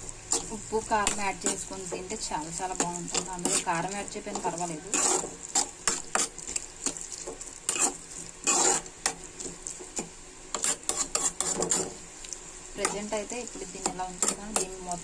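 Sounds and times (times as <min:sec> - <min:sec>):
soft sizzle of cooking: 0:00.0 - 0:15.0
metal spoon scraping pan: 0:00.3 - 0:12.0, 0:12.8 - 0:15.0.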